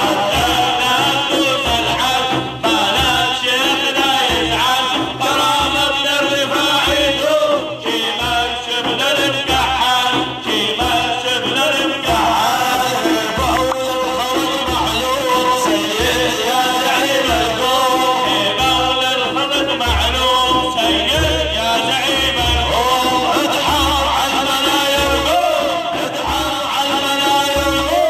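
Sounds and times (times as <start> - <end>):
low drum beat: 0.0 - 25.8
man singing devotional song: 0.0 - 28.0.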